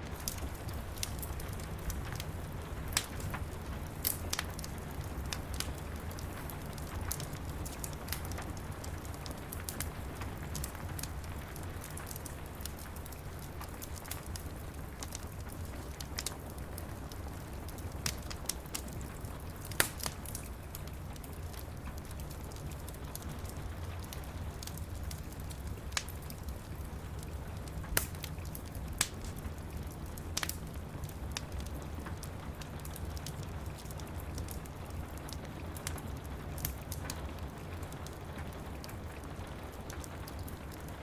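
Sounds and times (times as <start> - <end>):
steady rain: 0.0 - 41.0
wood fire crackling: 0.0 - 41.0.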